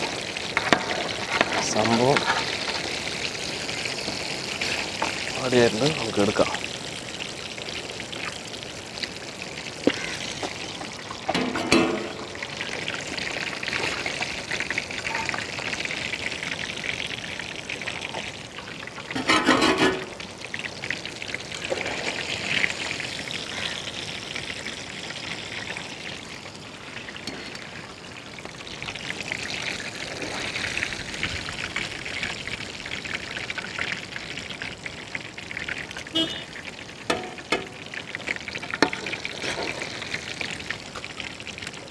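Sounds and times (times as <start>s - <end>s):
oil sizzling and bubbling: 0.0s - 41.9s.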